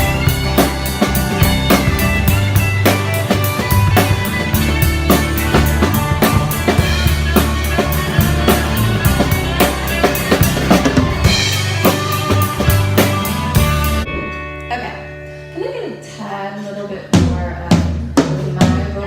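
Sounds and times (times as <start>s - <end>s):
drum kit beat: 0.0s - 14.7s, 17.1s - 19.0s
live band playing: 0.0s - 15.5s.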